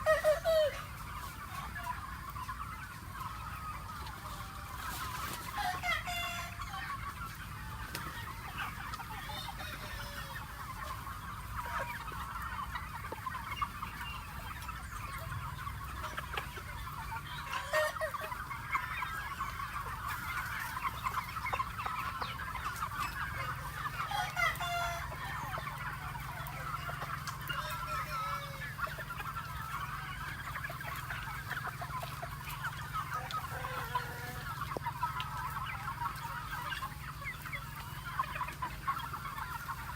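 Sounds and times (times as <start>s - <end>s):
chickens clucking: 0.0s - 39.9s
drawn-out chicken calls: 0.0s - 39.9s.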